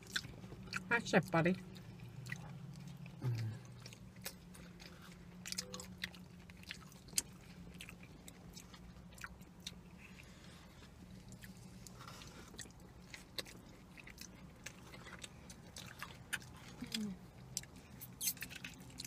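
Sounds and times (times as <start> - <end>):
people chewing food: 0.0 - 19.0
steady low hum: 0.0 - 19.0.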